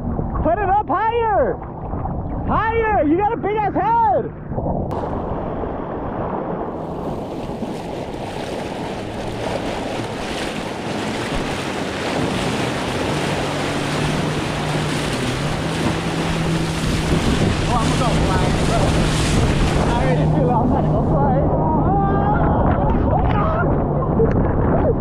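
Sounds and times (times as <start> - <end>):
wind buffeting microphone: 0.0 - 25.0
rushing water: 4.9 - 25.0
watercraft engine running: 4.9 - 25.0.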